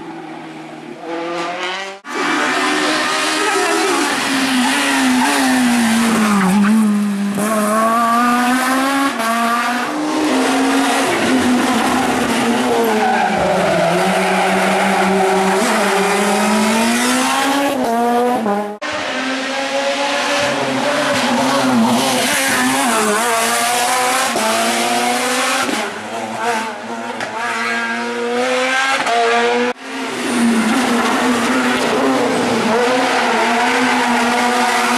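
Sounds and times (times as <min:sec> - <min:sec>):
rally car engine revving: 0:00.4 - 0:34.9.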